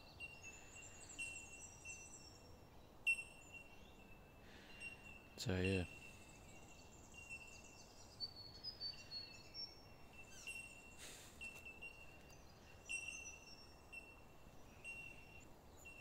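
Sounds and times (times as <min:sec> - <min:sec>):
faint high bird chirps: 0:00.0 - 0:16.0
soft hiss: 0:00.3 - 0:16.0.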